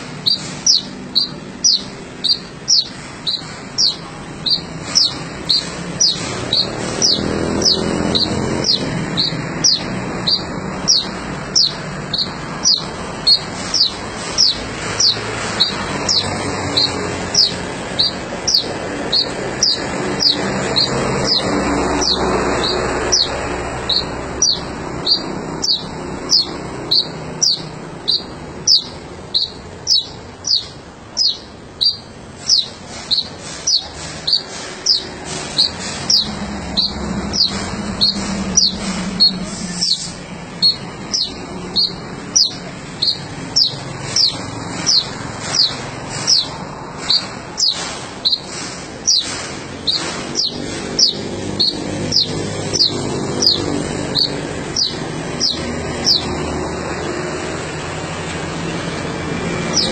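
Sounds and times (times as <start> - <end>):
songbird chirping: 0.0 - 57.1, 59.5 - 59.9.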